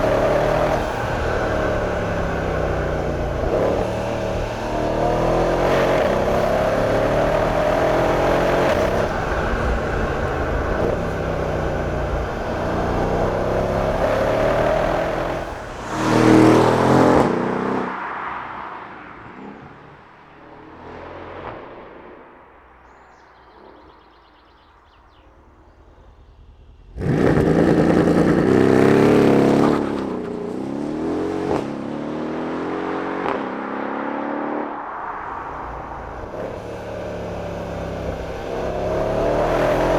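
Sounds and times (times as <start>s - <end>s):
car engine accelerating hard: 0.0s - 22.3s, 25.1s - 39.9s.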